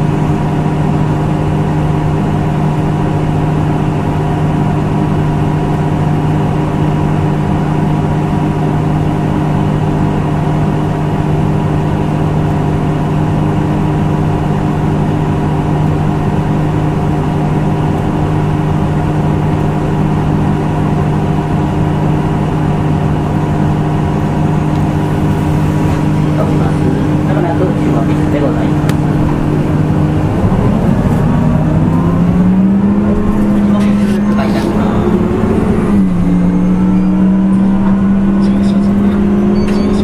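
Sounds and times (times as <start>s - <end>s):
bus engine humming: 0.0s - 40.0s.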